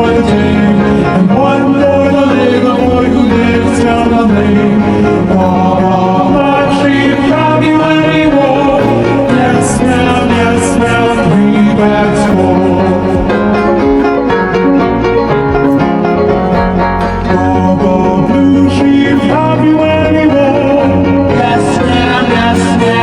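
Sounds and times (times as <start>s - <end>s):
nursery rhyme singing with music: 0.0s - 23.0s.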